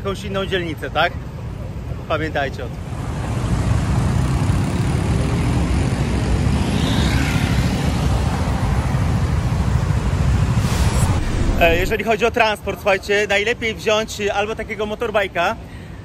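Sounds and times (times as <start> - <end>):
low rumble of traffic: 0.0 - 16.0.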